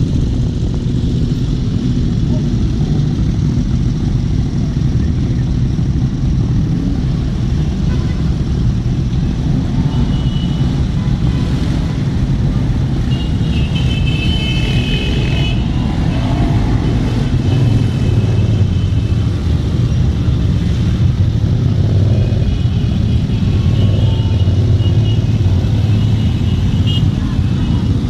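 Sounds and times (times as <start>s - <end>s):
motorcycle engines rumbling: 0.0s - 28.0s.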